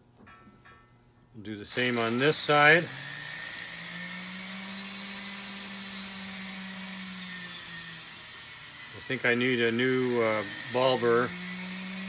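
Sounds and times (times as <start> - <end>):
rotary tool grinding whine: 1.7 - 12.0.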